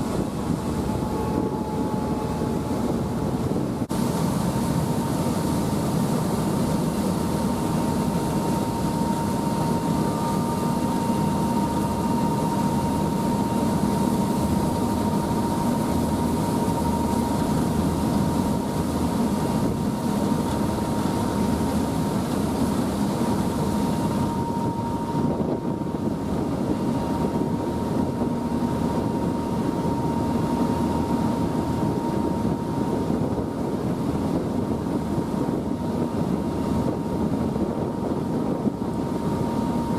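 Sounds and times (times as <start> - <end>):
ferry engines droning: 0.0 - 39.9
thin steady whine: 0.0 - 39.9
wind and water rushing: 0.0 - 39.9.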